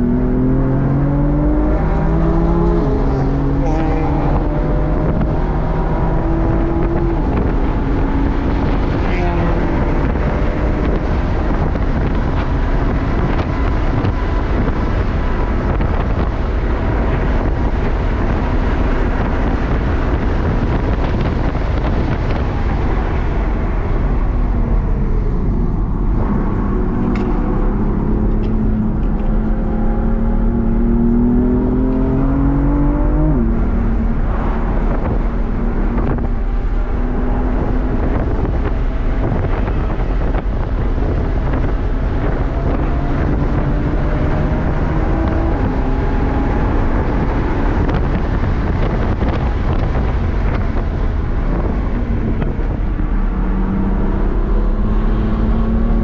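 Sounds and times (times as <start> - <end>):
car engine accelerating: 0.0 - 56.0
wind and road noise: 0.0 - 56.0.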